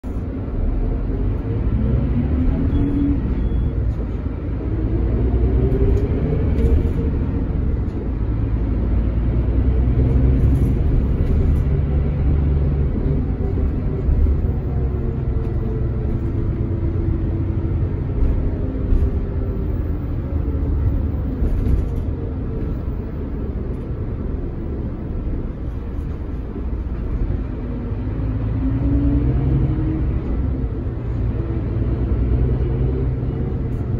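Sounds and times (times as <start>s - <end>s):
bus diesel engine rumbling: 0.0s - 33.9s.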